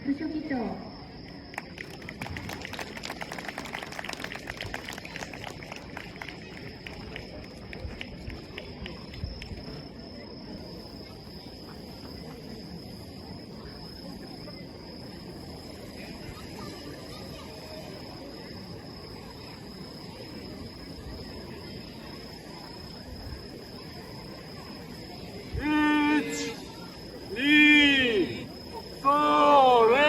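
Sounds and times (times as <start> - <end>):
crickets trilling: 0.0 - 30.0
outdoor background noise: 0.0 - 30.0.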